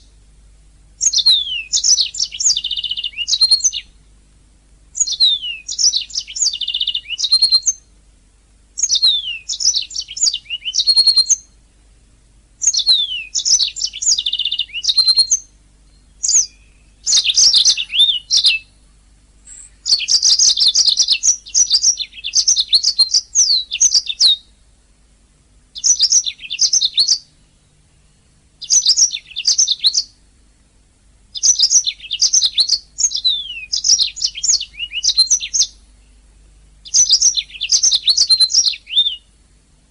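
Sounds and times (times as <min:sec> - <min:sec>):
canary singing: 0:00.0 - 0:00.2, 0:01.0 - 0:04.1, 0:04.9 - 0:07.9, 0:08.8 - 0:11.6, 0:12.6 - 0:24.6, 0:25.7 - 0:27.9, 0:28.6 - 0:30.2, 0:31.3 - 0:39.4.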